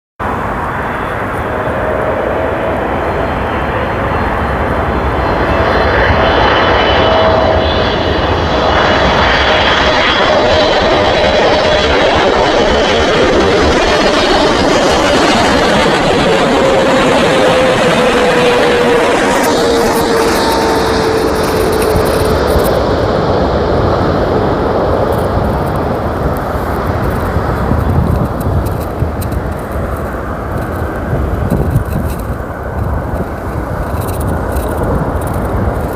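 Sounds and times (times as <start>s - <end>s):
jet engines roaring: 0.2s - 35.9s
thin jet whine: 0.2s - 35.9s.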